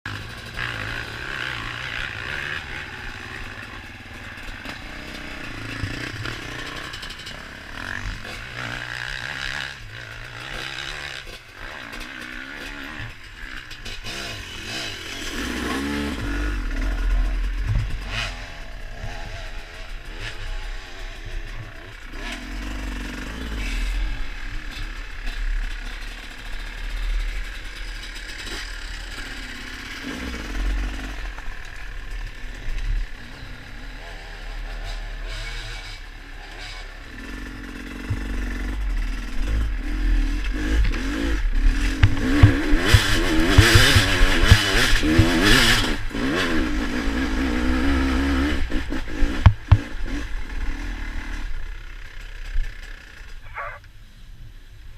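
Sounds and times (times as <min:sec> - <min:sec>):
off-road motorcycle engine revving: 0:00.0 - 0:53.9.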